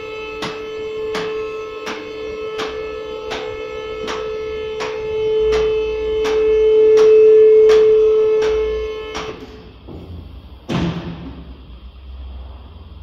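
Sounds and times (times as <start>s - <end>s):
hydraulic pump motor humming: 0.0s - 10.8s.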